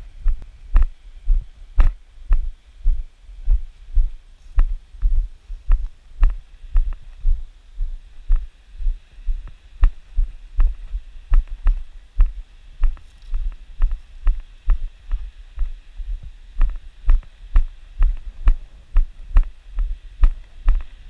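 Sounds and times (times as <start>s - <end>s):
footsteps on sandy gravel: 0.2s - 21.0s.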